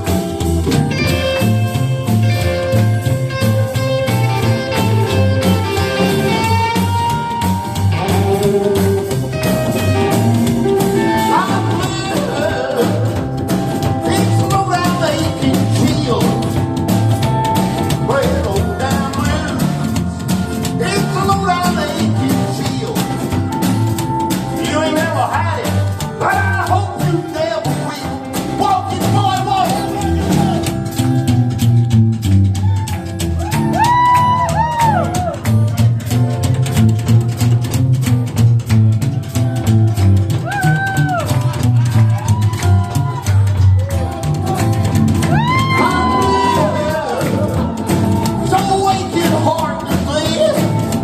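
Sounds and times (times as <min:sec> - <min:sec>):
lead guitar bending notes: 0:00.0 - 0:33.4, 0:35.0 - 0:51.0
bass line: 0:00.0 - 0:51.0
drum beat: 0:00.0 - 0:51.0
electric guitar: 0:00.0 - 0:51.0.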